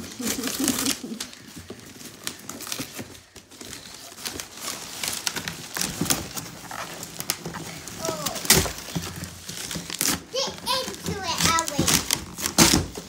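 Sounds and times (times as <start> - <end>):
cardboard box tearing: 0.0 - 13.0.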